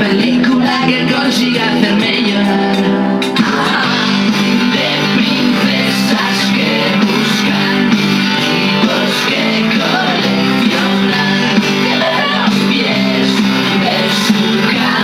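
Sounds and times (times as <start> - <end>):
pop rock song with guitar: 0.0 - 15.0.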